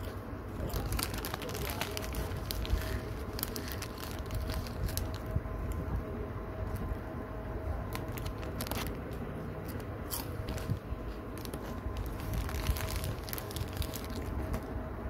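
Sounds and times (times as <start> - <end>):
chips and packet crackling: 0.0 - 5.9, 7.8 - 14.8.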